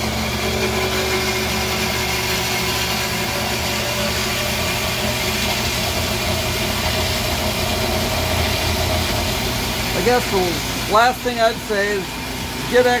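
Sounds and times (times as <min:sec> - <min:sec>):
bandsaw cutting metal bar: 0:00.0 - 0:13.0.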